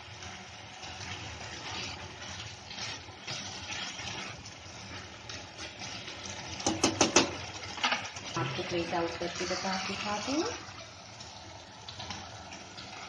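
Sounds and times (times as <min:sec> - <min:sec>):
spatula stirring bubbling stew: 0:00.0 - 0:13.0.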